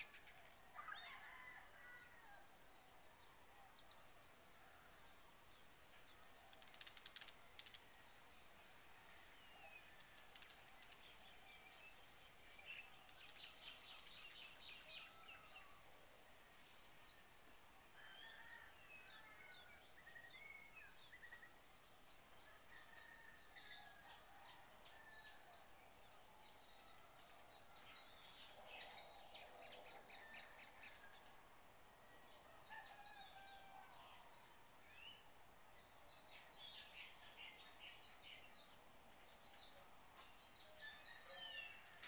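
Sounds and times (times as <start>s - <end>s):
low steady background hiss: 0.0s - 42.0s.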